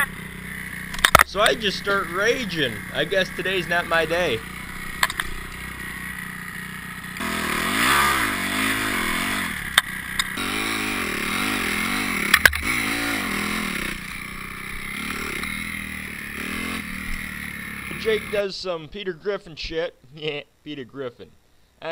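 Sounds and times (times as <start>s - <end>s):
dirt bike engine revving: 0.0s - 18.4s.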